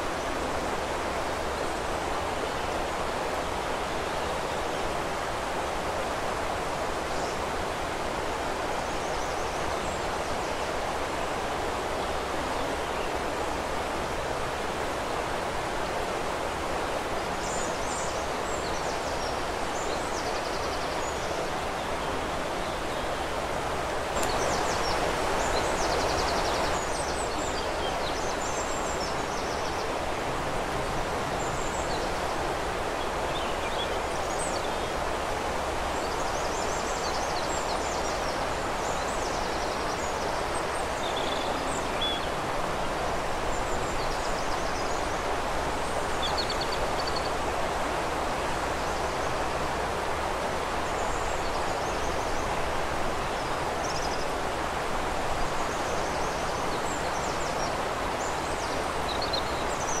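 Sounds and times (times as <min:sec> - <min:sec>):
river flowing: 0:00.0 - 1:00.0.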